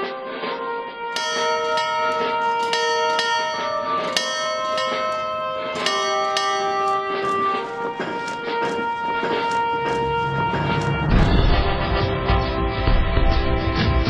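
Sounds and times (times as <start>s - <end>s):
sustained musical tones: 0.0s - 13.5s
bells struck: 1.1s - 12.6s.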